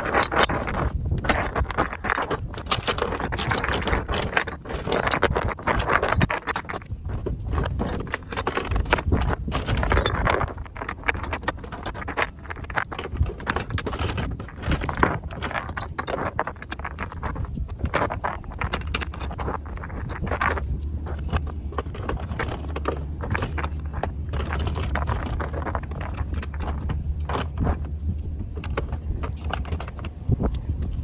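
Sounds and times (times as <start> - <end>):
anchor chain clinking on deck: 0.0 - 31.0.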